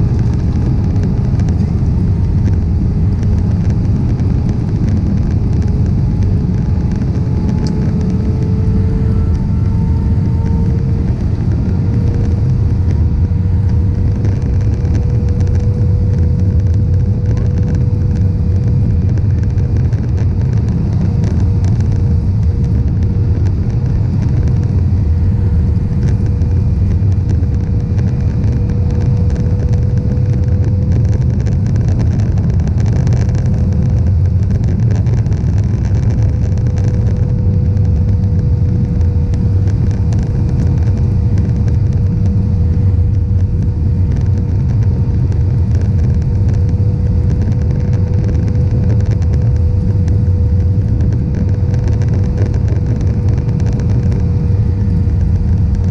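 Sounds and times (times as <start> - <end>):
jet engines rumbling in flight: 0.0 - 55.9
steady hum tone: 0.0 - 55.9.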